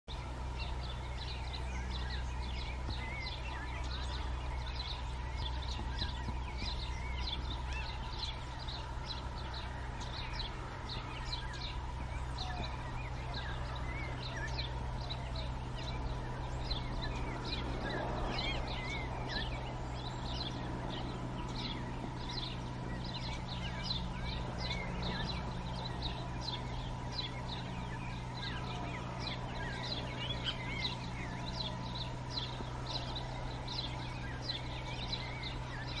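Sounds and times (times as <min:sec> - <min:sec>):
birds chip calls: 0:00.1 - 0:36.0
steady low hum: 0:00.1 - 0:36.0.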